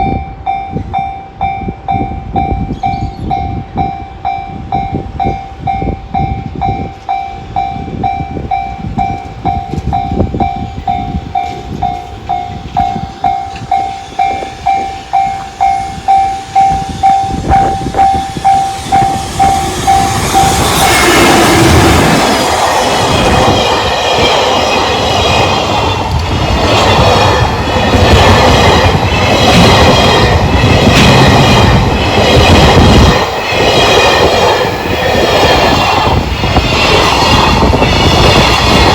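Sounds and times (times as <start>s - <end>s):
level-crossing warning bell: 0.0s - 34.6s.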